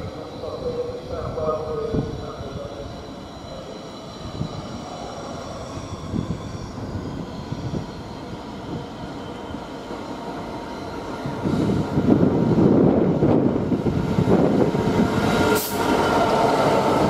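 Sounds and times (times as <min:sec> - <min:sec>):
diesel locomotive approaching: 0:00.0 - 0:17.0.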